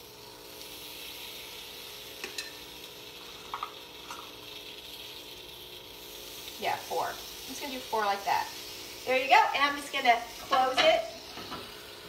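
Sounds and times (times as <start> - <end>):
dough sizzling in a pan: 0.0 - 12.0.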